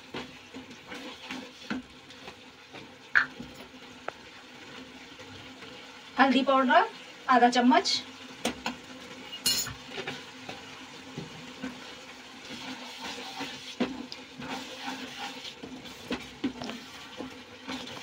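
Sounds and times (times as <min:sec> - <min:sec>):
sauce sizzling and bubbling: 0:00.0 - 0:18.0.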